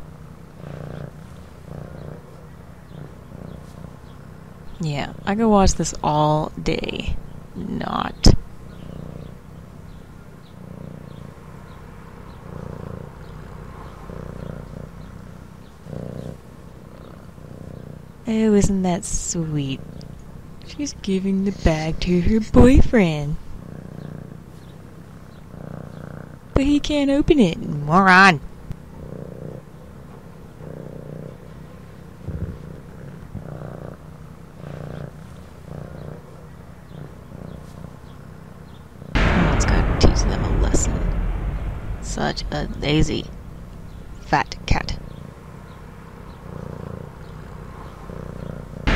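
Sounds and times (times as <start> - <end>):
cat purring: 0.0 - 41.1, 44.0 - 48.9.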